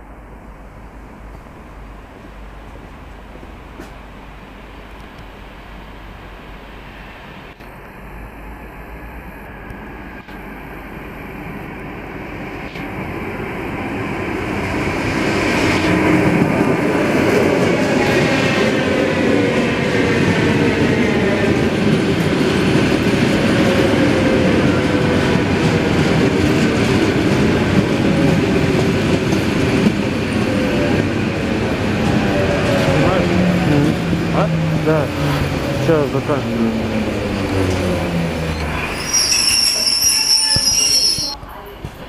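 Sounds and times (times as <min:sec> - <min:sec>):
train wheels rumbling on rail: 0:00.8 - 0:07.8, 0:08.4 - 0:42.0.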